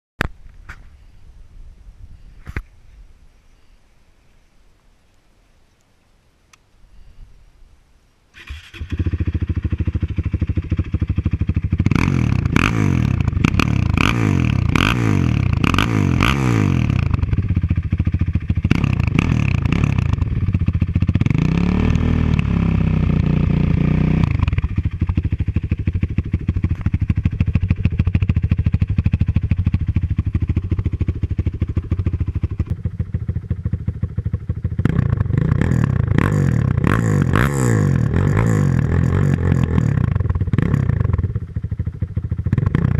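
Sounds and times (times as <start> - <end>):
motorcycle engine revving and idling: 8.4 - 42.9.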